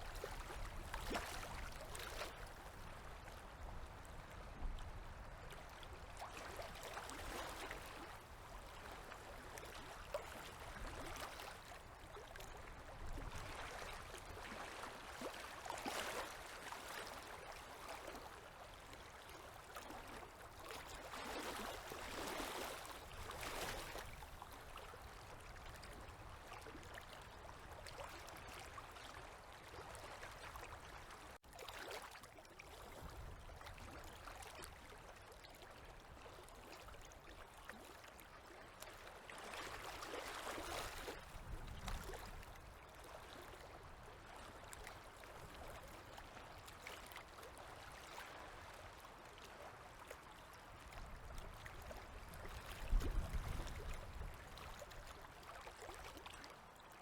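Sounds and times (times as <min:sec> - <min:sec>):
waves lapping at riverbank: 0:00.0 - 0:57.0.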